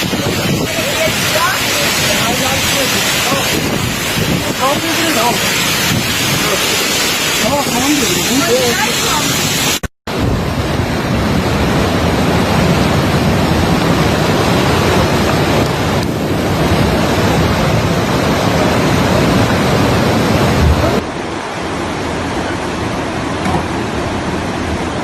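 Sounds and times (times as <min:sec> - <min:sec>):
rushing wind or water: 0:00.0 - 0:25.0.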